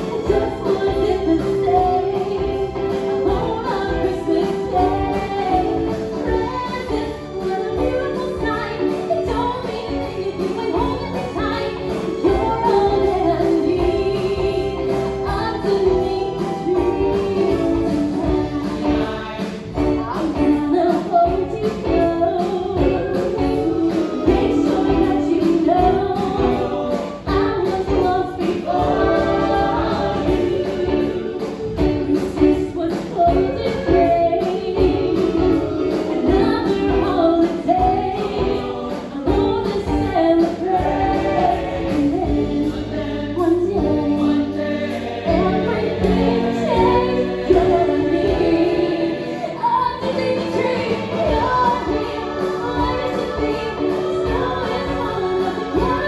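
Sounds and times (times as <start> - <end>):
group singing with accompaniment: 0.0 - 56.0.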